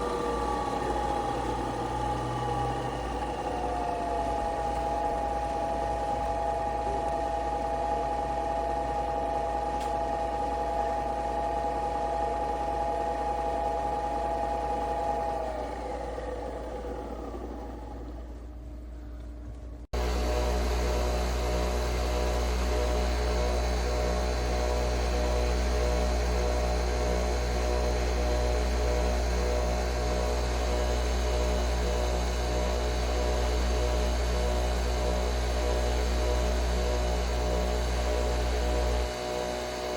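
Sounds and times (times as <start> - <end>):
appliance motor whirring: 0.0 - 39.9
coffee machine humming: 0.0 - 39.9.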